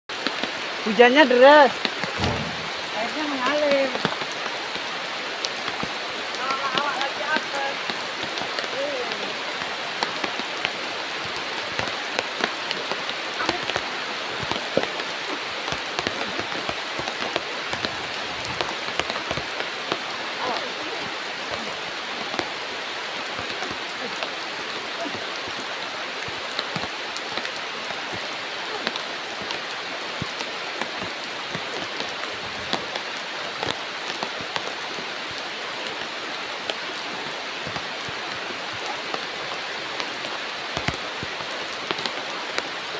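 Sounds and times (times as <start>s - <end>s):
heavy rain pouring: 0.1s - 42.9s.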